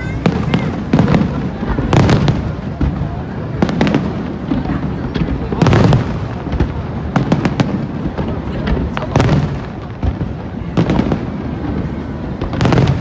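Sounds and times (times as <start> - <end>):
fireworks bangs and booms: 0.0 - 13.0.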